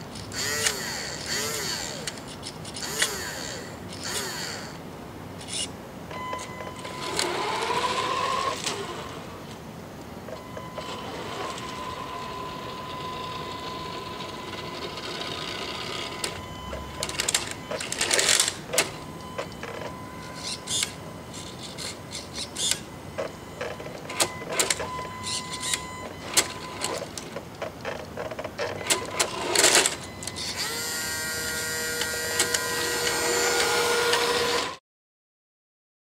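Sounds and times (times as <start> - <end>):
electric motor whining: 0.3 - 4.8, 6.8 - 9.4, 10.7 - 27.2, 28.8 - 34.8.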